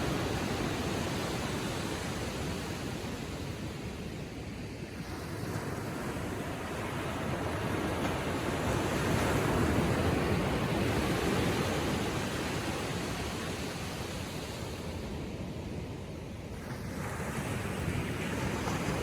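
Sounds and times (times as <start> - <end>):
ocean waves washing on beach: 0.0 - 19.0.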